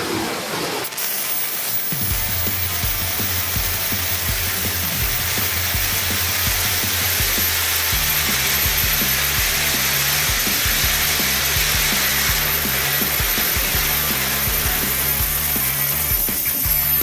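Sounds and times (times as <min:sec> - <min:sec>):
fireworks spraying hiss: 0:00.3 - 0:17.0
background music with bass: 0:02.0 - 0:17.0.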